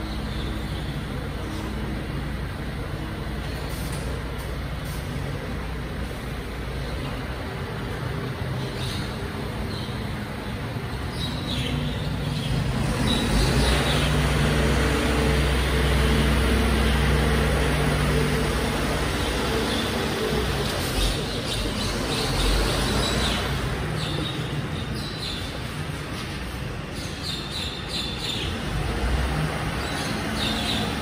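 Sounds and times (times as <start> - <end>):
garbage truck diesel engine: 0.0 - 27.2, 27.8 - 31.0.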